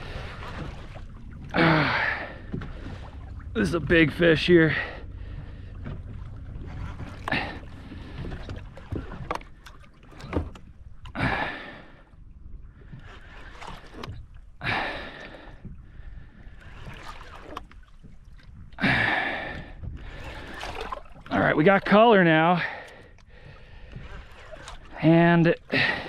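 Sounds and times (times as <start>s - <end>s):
wind and water rumble: 0.0s - 26.0s.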